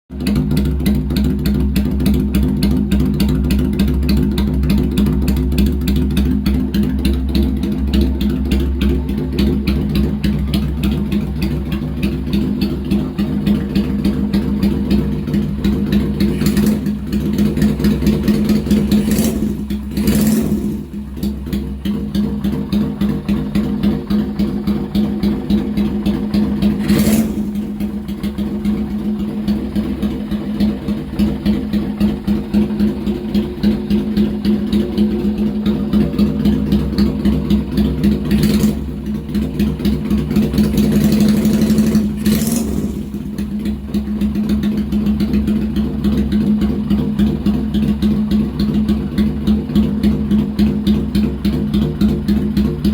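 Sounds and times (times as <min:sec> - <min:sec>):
motorcycle engine idling: 0:00.1 - 0:52.9.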